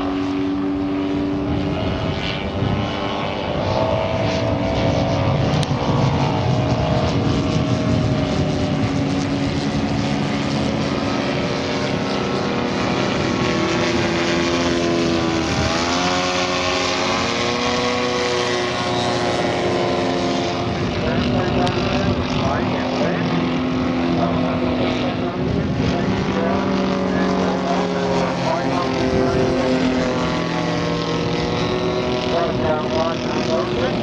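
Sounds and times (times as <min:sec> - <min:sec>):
model aeroplane engine droning: 0:00.0 - 0:34.0.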